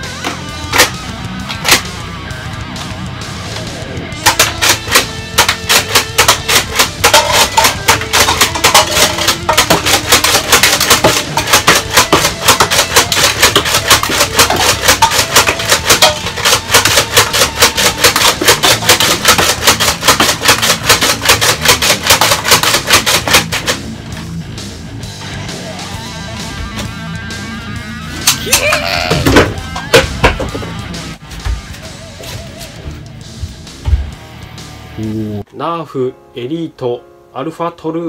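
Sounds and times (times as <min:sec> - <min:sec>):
loud rock music: 0:00.0 - 0:35.5.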